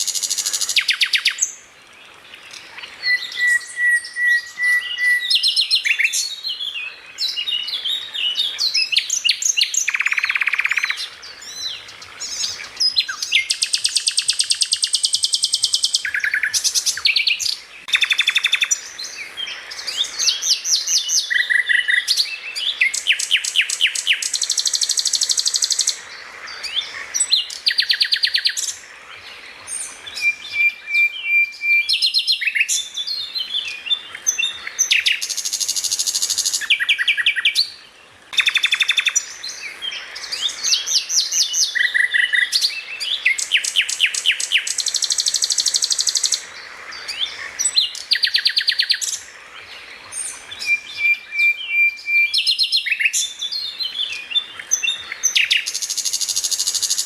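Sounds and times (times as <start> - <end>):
songbird singing trills: 0.0 - 57.0.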